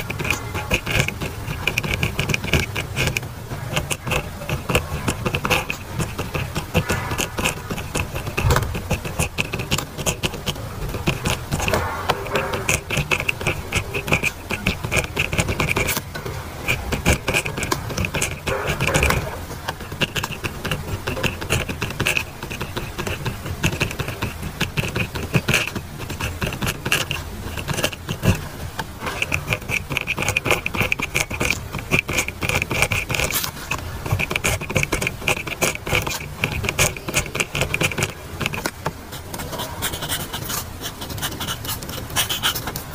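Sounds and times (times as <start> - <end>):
pen scratching on paper: 0.0 - 42.9.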